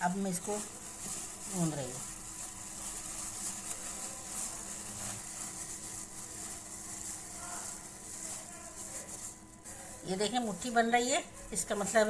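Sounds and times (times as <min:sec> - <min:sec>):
gloved hand rubbing flour: 0:00.0 - 0:12.0.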